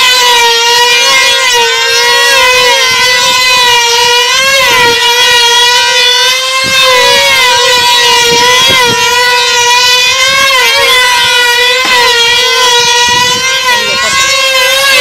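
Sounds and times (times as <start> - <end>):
model aircraft engines whining: 0.0 - 15.0.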